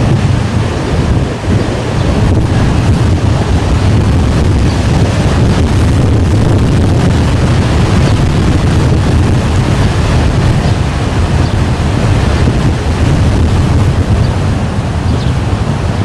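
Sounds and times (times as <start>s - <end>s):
storm wind buffeting microphone: 0.0s - 16.0s.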